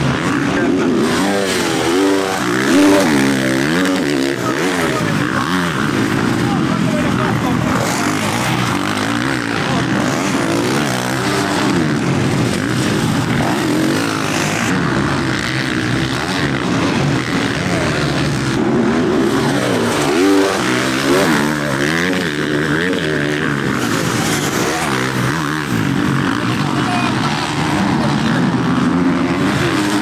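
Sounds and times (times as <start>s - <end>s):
motocross bike engines revving: 0.0s - 30.0s.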